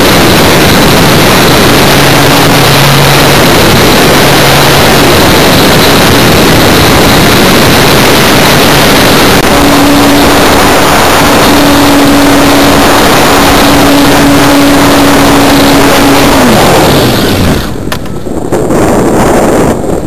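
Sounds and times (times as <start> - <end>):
electric motor and propeller whine: 0.0 - 20.0
wind rush: 0.0 - 20.0.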